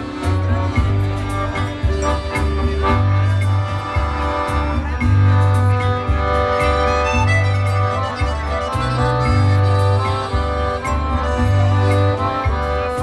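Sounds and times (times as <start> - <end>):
accordions: 0.0 - 13.0
drum beat: 0.0 - 13.0
keyboard: 0.0 - 13.0
low bass line: 0.0 - 13.0
polka music: 0.0 - 13.0.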